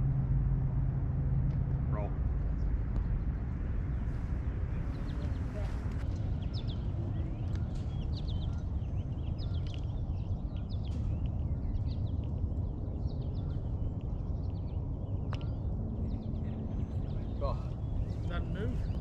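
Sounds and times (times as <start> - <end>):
small birds chirping: 2.0 - 19.0.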